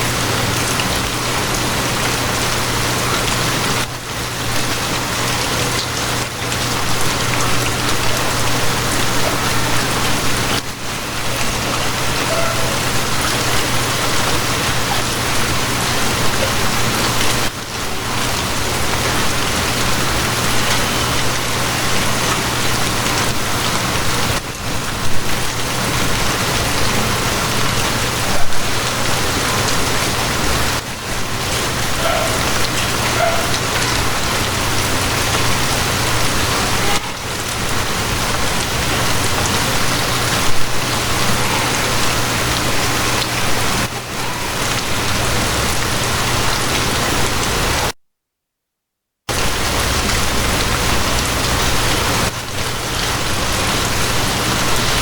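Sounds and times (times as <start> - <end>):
heavy rain hiss: 0.0 - 48.0, 49.3 - 55.0.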